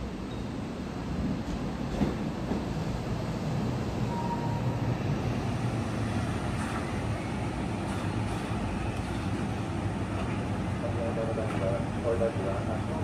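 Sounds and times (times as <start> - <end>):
electric train rumbling to a stop: 0.0 - 13.0.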